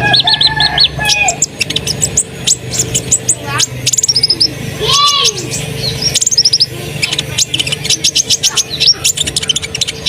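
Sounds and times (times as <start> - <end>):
birds chirping and trilling: 0.0 - 10.0.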